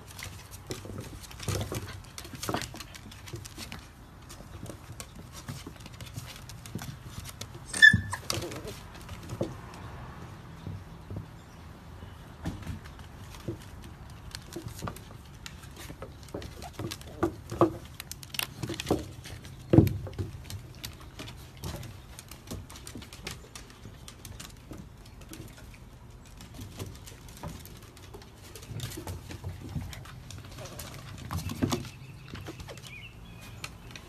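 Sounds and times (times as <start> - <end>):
puppy paws scrabbling on wood: 0.0 - 34.0.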